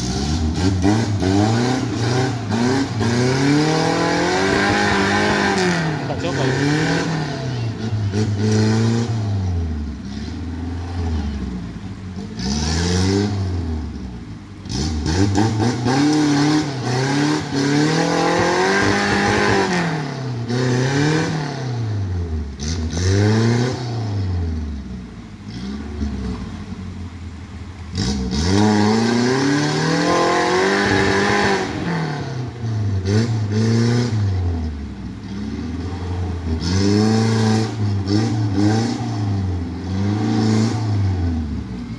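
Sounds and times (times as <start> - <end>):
off-road vehicle engine revving: 0.0 - 41.9.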